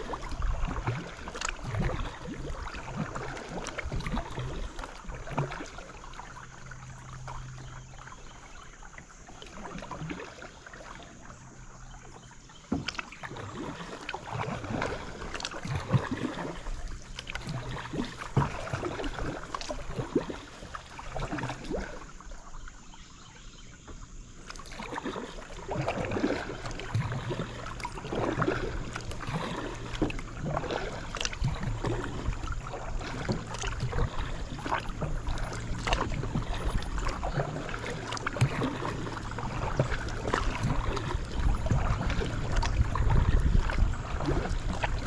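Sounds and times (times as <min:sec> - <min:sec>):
paddle splashing in water: 0:00.0 - 0:45.0.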